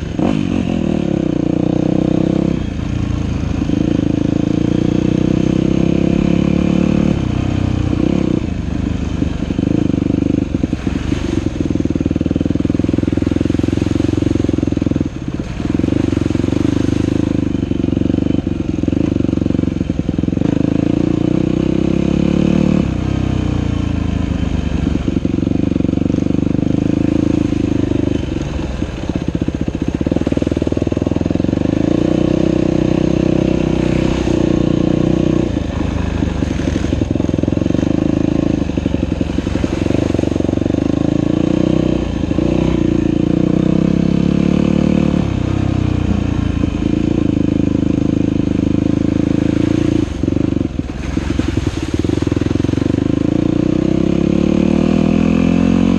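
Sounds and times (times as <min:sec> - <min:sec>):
dirt bike engine revving: 0:03.6 - 0:23.4, 0:29.7 - 0:55.9.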